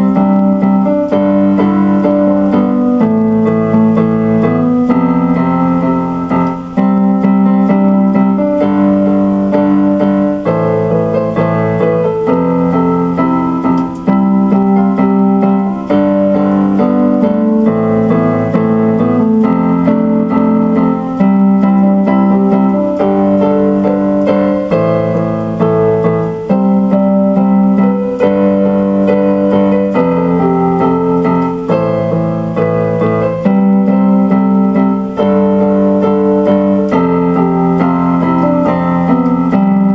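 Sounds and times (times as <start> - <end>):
slow keyboard chords: 0.0 - 39.9.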